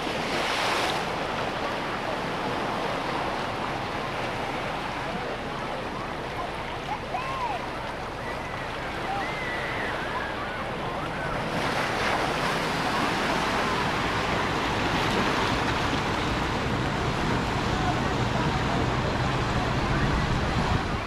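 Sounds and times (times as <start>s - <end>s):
surf washing onto sandy beach: 0.0s - 21.0s
faint voices of people: 1.4s - 14.5s, 16.4s - 21.0s.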